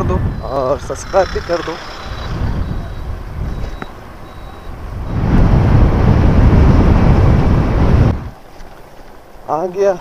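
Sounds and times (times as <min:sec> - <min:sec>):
wind rumbling on microphone: 0:00.0 - 0:09.5
road noise: 0:00.0 - 0:10.0.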